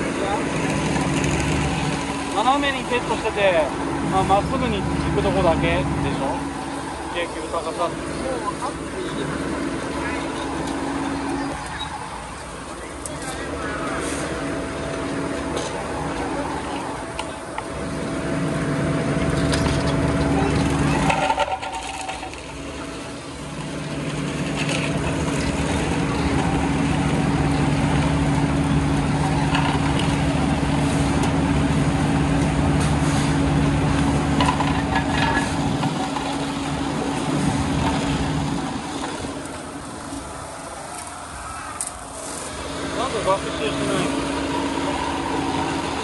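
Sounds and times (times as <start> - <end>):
paving machine engine running: 0.0 - 46.0.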